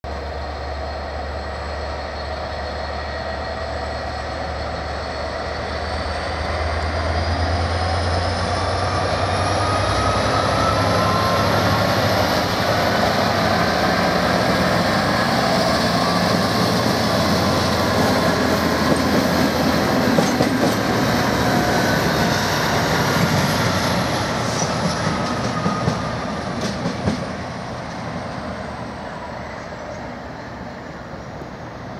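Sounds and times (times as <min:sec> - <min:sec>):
diesel locomotive engine droning: 0:00.0 - 0:31.9.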